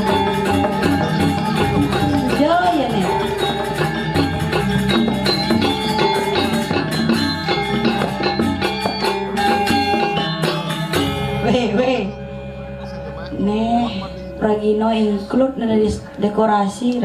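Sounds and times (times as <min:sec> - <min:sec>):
gamelan ensemble playing: 0:00.0 - 0:17.0.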